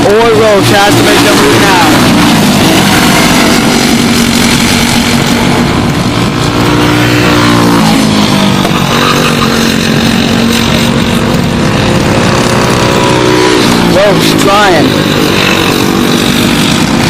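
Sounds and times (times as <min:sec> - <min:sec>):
kart engines racing: 0:00.0 - 0:17.0.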